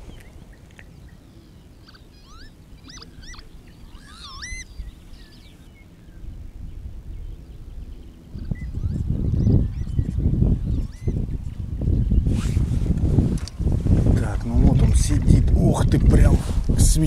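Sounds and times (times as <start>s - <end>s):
low outdoor rumble: 0.0s - 17.0s
songbird singing: 0.0s - 17.0s.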